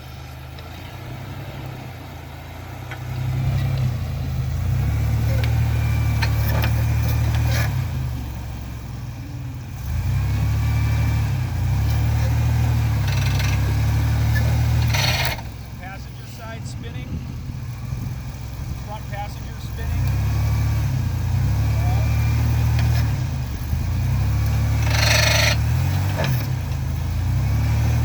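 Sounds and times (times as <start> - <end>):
van engine pulling under load: 0.0 - 28.0.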